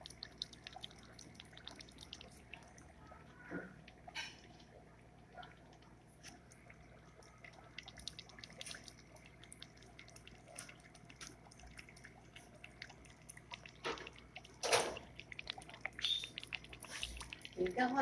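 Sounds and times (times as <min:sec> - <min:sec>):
air stone bubbling in water: 0:00.0 - 0:18.0
faint low hum: 0:00.0 - 0:18.0.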